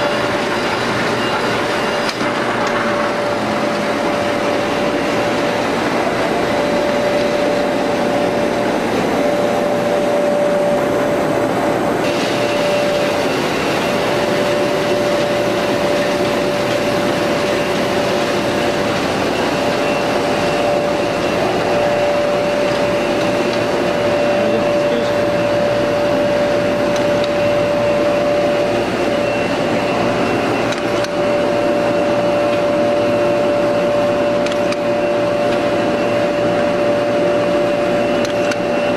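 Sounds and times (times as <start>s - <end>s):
coater machine whirring and humming: 0.0s - 38.9s
high thin whine: 0.0s - 38.9s.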